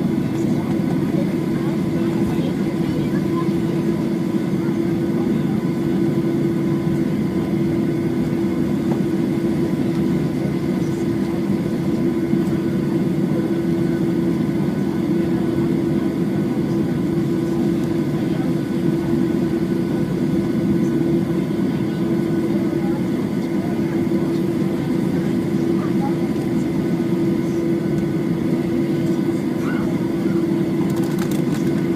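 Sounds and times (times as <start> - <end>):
airliner cabin drone: 0.0 - 31.9.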